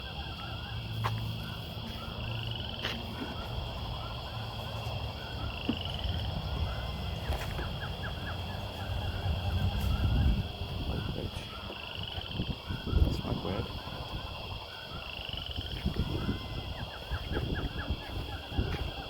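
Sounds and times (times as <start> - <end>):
chorus of animal chirps: 0.0 - 19.0.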